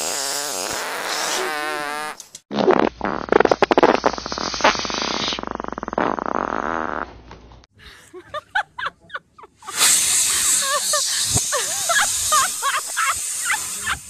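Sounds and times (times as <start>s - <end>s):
balloon neck buzzing: 0.0s - 7.2s, 9.7s - 14.0s.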